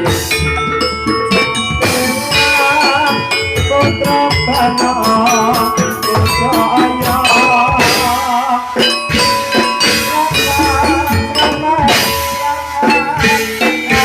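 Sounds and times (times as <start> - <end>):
gamelan music over sound system: 0.0 - 14.0
rattling percussion: 0.0 - 14.0.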